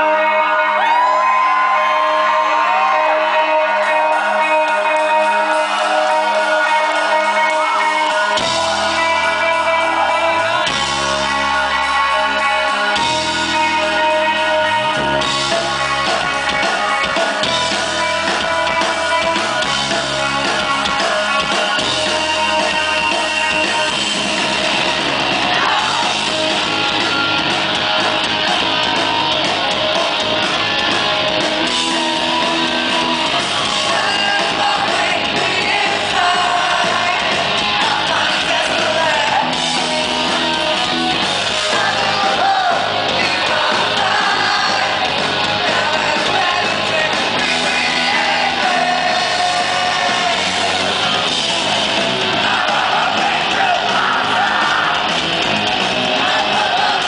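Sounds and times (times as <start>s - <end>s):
person singing: 0.0s - 27.1s, 27.8s - 51.3s
bass: 0.0s - 57.0s
drums: 0.0s - 57.0s
electric guitars: 0.0s - 57.0s.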